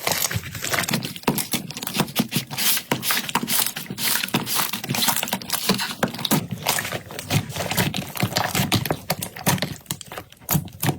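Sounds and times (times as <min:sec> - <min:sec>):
slime crackling and popping: 0:00.0 - 0:10.9.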